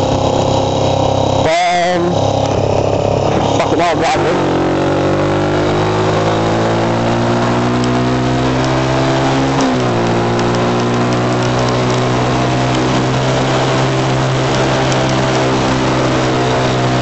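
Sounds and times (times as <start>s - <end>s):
motorcycle engine running under load: 0.0s - 17.0s
wind and road rush: 0.0s - 17.0s.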